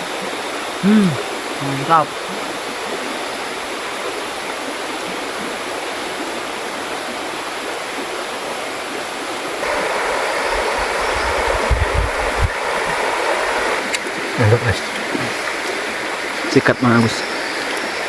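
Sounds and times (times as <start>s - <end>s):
river running over rocks: 0.0s - 18.0s.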